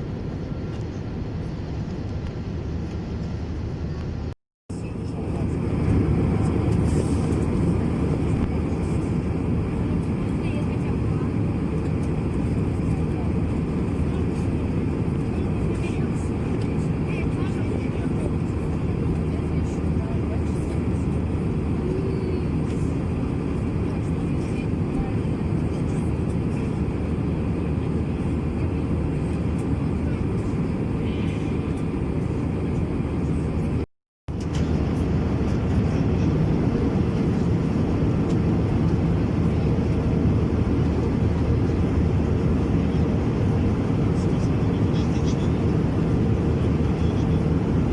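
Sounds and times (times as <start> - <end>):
aircraft cabin engine roar: 0.0 - 47.9.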